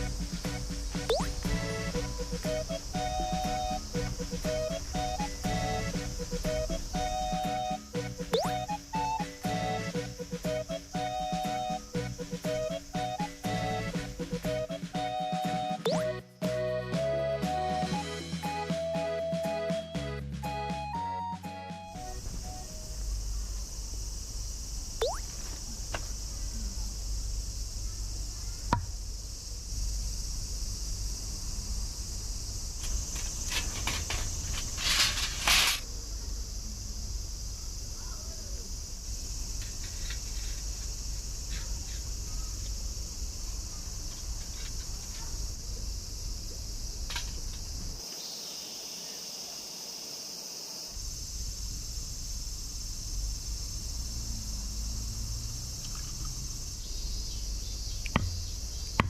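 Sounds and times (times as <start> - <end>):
cicadas chorus: 0.0 - 59.0.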